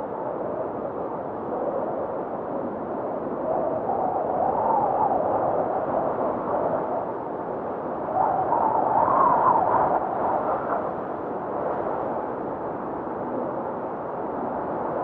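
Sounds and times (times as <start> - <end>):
snowstorm wind rushing: 0.0 - 15.0.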